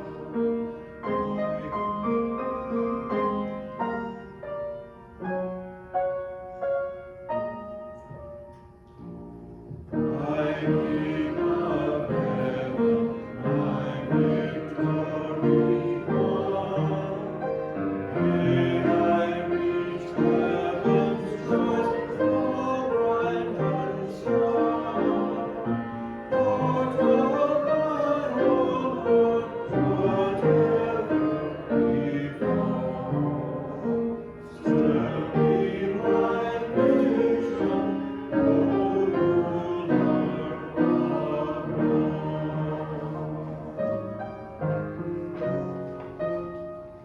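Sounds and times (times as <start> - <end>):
voices singing a hymn: 0.0 - 5.5, 9.8 - 47.0
piano chords: 0.0 - 47.0.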